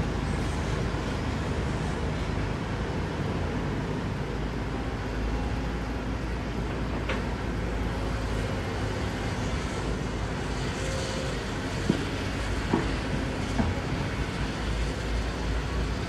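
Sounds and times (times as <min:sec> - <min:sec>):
heavy machine engine rumbling: 0:00.0 - 0:16.0.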